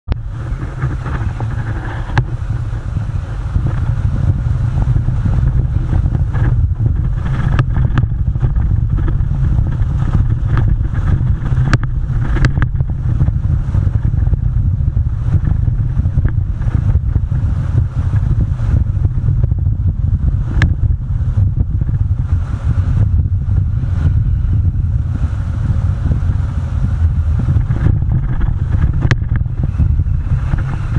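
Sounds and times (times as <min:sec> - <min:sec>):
vehicle rumbling on gravel: 0:00.1 - 0:30.9.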